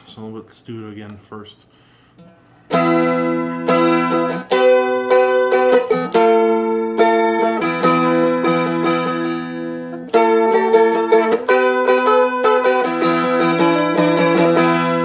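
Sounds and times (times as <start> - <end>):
strummed dulcimer chords: 2.7 - 15.0.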